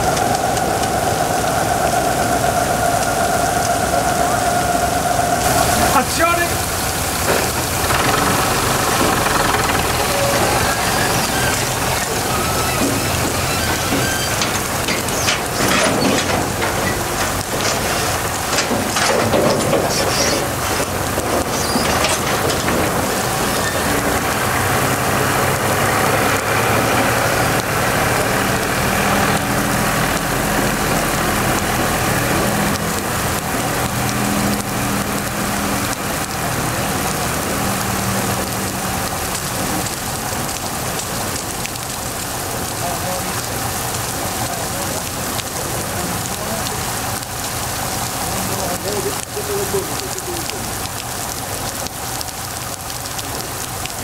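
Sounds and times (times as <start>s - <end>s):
heavy rain: 0.0s - 54.0s
sharp crackles: 5.4s - 54.0s.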